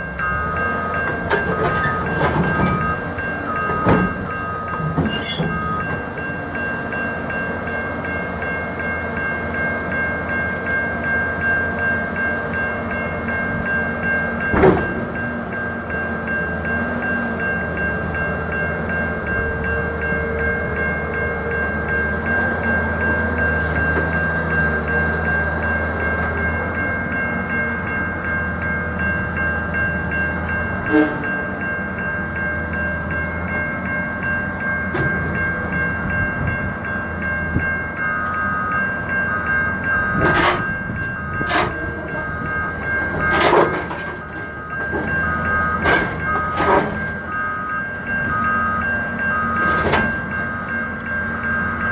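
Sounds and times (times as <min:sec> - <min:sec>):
excavator diesel engine whining: 0:00.0 - 0:07.3, 0:16.5 - 0:51.9
beeping alarm: 0:00.0 - 0:10.2, 0:17.6 - 0:51.9.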